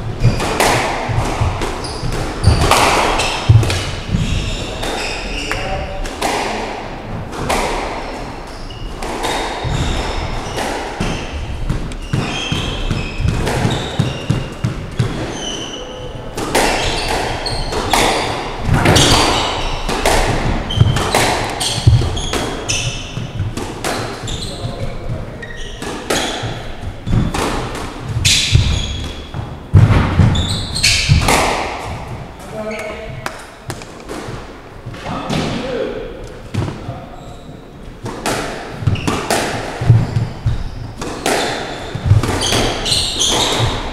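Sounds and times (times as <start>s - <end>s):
shoes squeaking on wooden floor: 0.0s - 6.0s, 8.0s - 35.3s, 36.5s - 43.9s
squash ball striking walls: 0.0s - 35.8s, 36.4s - 37.0s, 37.9s - 43.9s.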